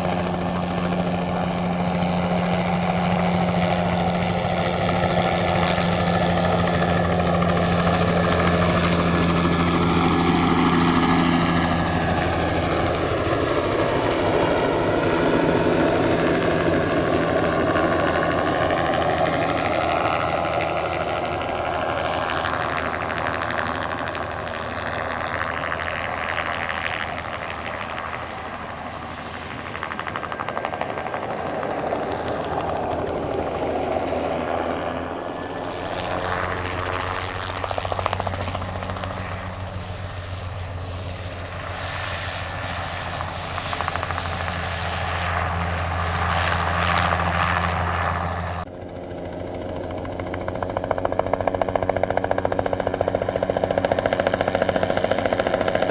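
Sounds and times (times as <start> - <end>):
helicopter rotor and engine whine: 0.0 - 55.9.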